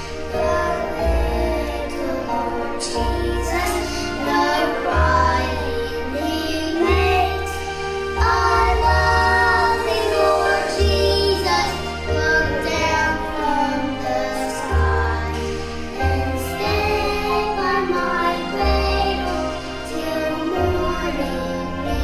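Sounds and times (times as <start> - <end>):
children singing: 0.0 - 22.0.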